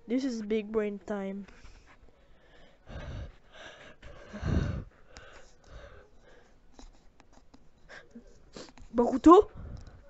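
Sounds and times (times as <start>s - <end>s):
soft breaths: 1.3s - 10.0s.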